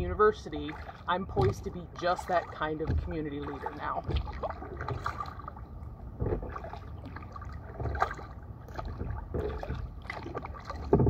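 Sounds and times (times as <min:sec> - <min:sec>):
paddle blades splashing in water: 0:00.0 - 0:11.0.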